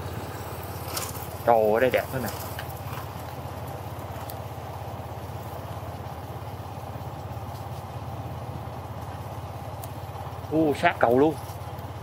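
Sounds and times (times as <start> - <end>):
road and wind noise: 0.0 - 12.0
vehicle engine running: 0.0 - 12.0.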